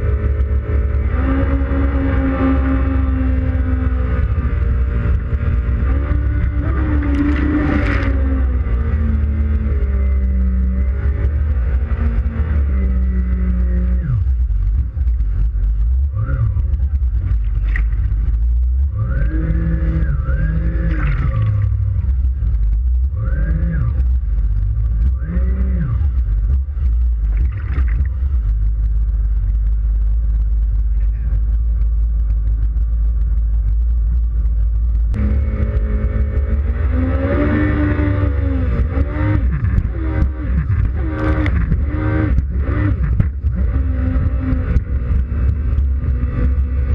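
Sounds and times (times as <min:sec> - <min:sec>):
personal watercraft engine revving: 0:00.0 - 0:32.9, 0:34.9 - 0:46.9.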